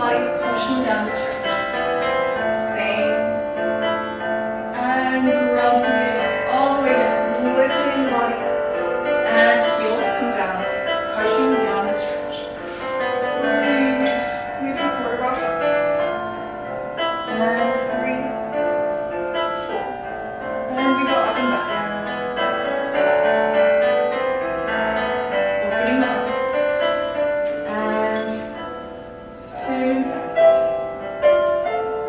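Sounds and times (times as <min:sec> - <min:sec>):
classical piano music: 0:00.0 - 0:32.0.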